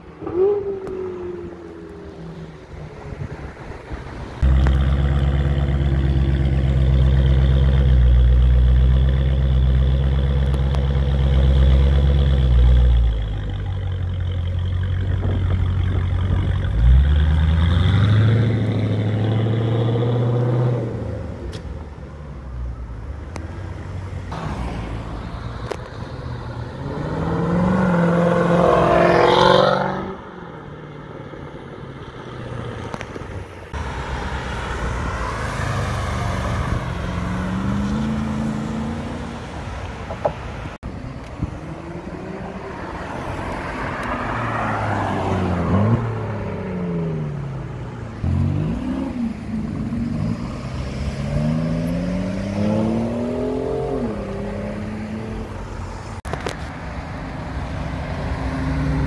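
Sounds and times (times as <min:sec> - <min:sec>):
car engines accelerating hard: 0:00.0 - 0:21.6, 0:23.3 - 0:59.0
cars revving and upshifting: 0:00.0 - 0:21.9, 0:23.3 - 0:59.0.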